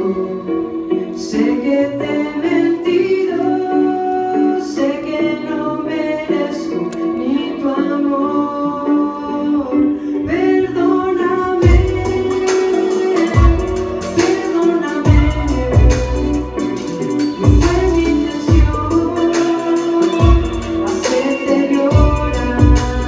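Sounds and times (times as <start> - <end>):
woman singing into a microphone: 0.0 - 16.6, 17.4 - 23.0
instrumental accompaniment: 0.0 - 23.0.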